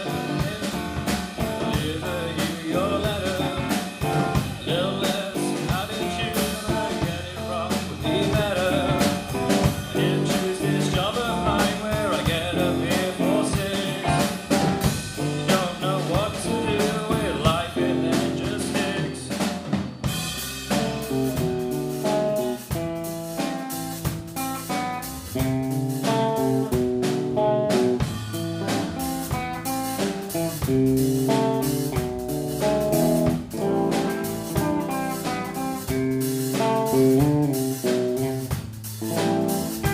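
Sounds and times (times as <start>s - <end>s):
bluesy band with drums and guitar: 0.0s - 39.9s.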